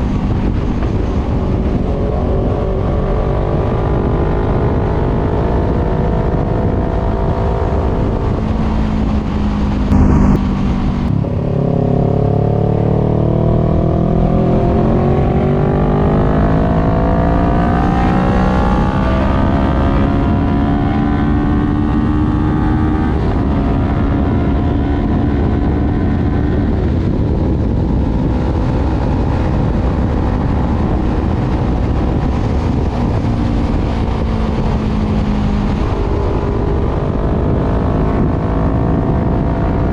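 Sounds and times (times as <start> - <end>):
motorcycle engine under way: 0.0 - 39.9
wind rushing: 0.0 - 39.9.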